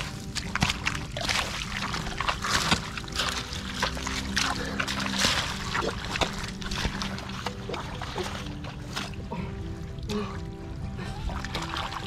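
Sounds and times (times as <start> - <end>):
background music with low notes: 0.0 - 12.0
hands squelching in wet mud: 0.0 - 12.0.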